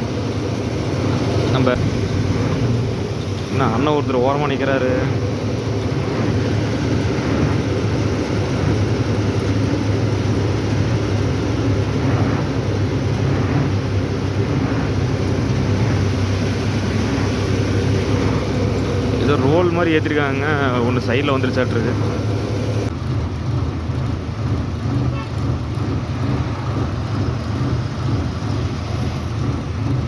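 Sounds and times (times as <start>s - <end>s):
road noise: 0.0s - 30.0s
truck engine drone: 0.0s - 30.0s.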